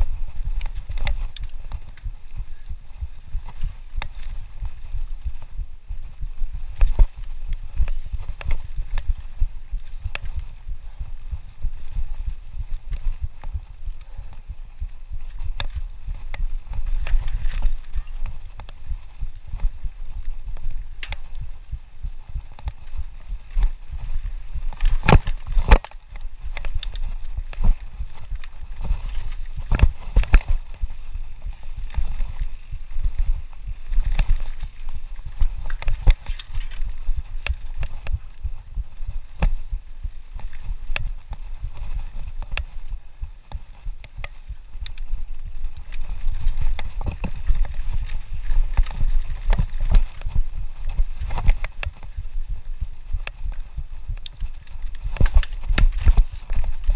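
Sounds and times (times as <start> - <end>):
bike clicking and rattling: 0.0 - 56.9
bike rumbling over bumps: 0.0 - 56.9.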